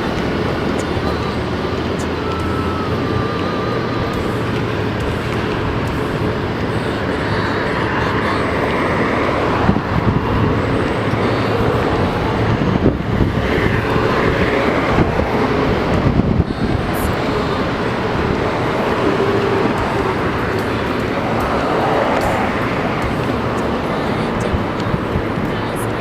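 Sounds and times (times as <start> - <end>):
moving vehicle rumble: 0.0 - 26.0.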